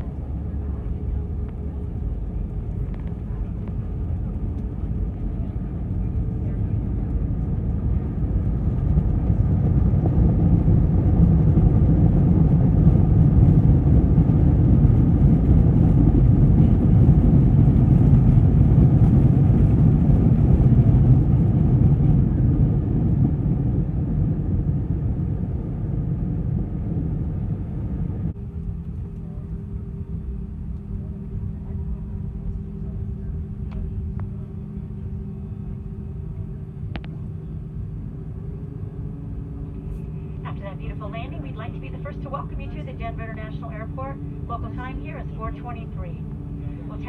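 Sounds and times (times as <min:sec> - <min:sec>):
aircraft engines and runway rumble: 0:00.0 - 0:47.0.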